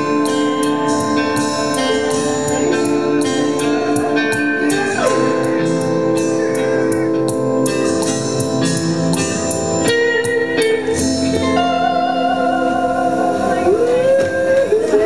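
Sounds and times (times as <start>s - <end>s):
band playing sustained chords: 0.0s - 15.0s
plucked string notes: 0.0s - 15.0s
sliding pitch note: 0.0s - 15.0s.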